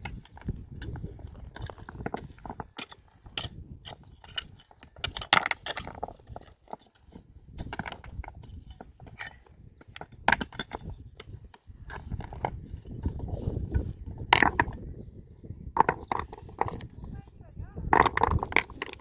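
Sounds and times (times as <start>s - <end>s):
clicks and scrapes of hand work: 0.0s - 14.8s, 15.8s - 17.0s, 18.0s - 19.0s.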